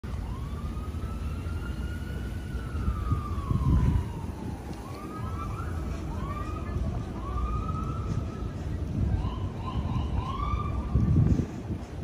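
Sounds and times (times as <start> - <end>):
wind rumbling on microphone: 0.0 - 12.0
siren wailing: 0.1 - 11.1.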